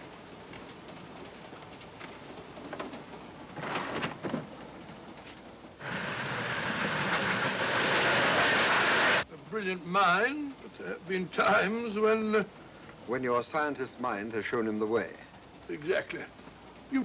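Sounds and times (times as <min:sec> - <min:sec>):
steam train rushing at speed: 0:00.0 - 0:03.6, 0:04.4 - 0:17.0.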